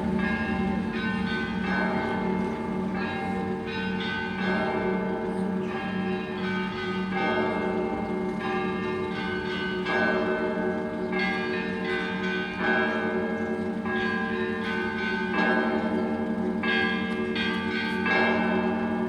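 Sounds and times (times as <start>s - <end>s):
church bells ringing: 0.0s - 19.0s
low bell tone: 0.0s - 19.0s.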